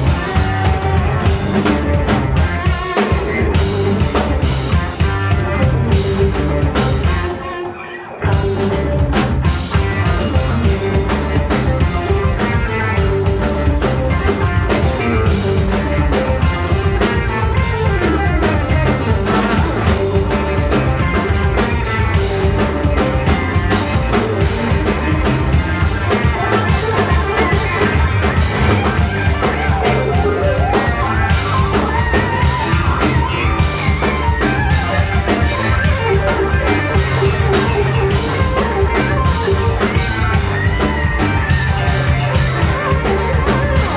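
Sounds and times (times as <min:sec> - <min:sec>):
rock band playing live: 0:00.0 - 0:43.9.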